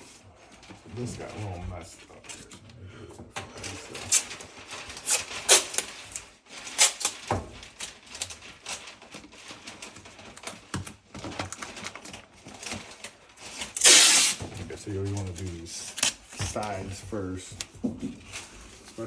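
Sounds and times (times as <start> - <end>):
masking tape crackling: 0.6 - 17.6.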